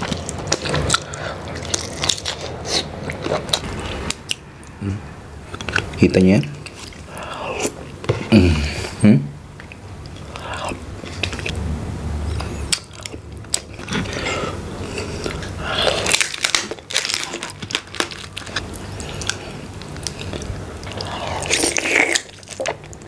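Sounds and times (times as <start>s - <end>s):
close-miked eating and crunching: 0.0s - 9.0s, 9.6s - 11.6s, 12.3s - 23.0s.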